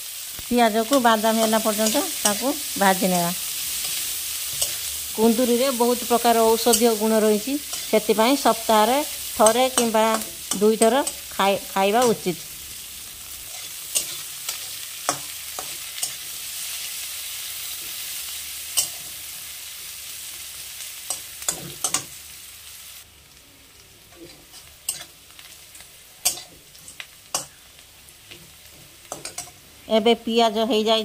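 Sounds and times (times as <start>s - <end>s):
onions sizzling in oil: 0.0s - 31.0s.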